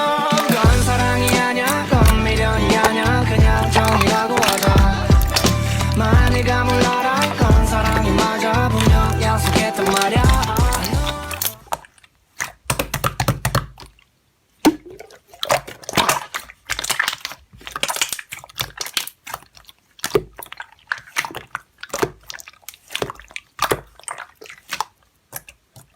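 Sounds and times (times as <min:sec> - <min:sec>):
slime squelching and popping: 0:00.3 - 0:25.9.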